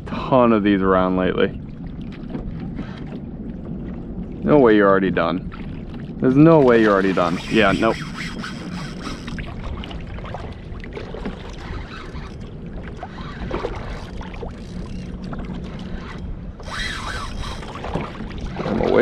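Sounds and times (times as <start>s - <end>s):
water lapping against kayak hull: 0.0s - 19.0s.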